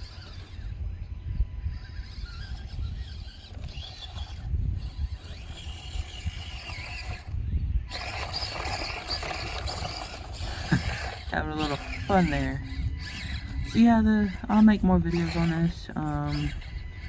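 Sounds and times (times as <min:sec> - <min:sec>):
small electric motor whining: 0:00.0 - 0:17.0.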